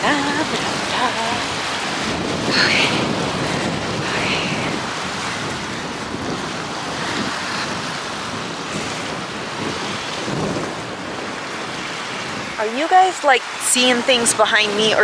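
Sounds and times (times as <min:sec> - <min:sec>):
lake waves washing on shore: 0:00.0 - 0:15.0.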